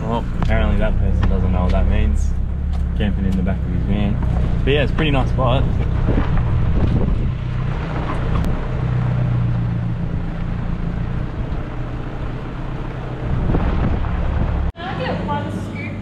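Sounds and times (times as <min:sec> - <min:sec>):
tyre noise on dirt track: 0:00.0 - 0:14.7
engine running at low speed: 0:00.0 - 0:14.8.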